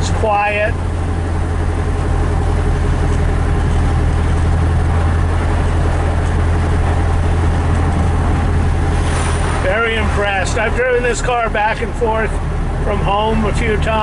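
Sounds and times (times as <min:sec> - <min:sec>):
car engine drone: 0:00.0 - 0:14.0
road and tyre noise: 0:00.0 - 0:14.0.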